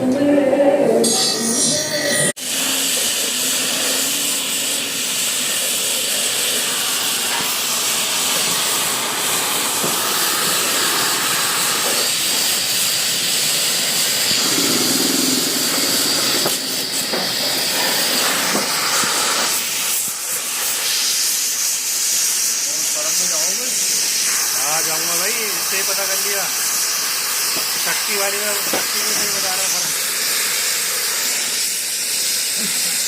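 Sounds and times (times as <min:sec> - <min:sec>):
loud steady hiss: 0:02.4 - 0:33.0.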